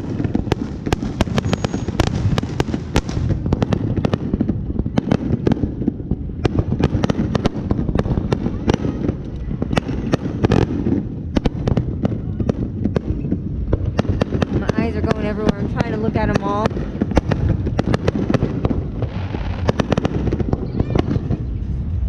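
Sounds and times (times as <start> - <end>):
fireworks booming: 0.0 - 22.0
fireworks cracking: 0.0 - 22.0.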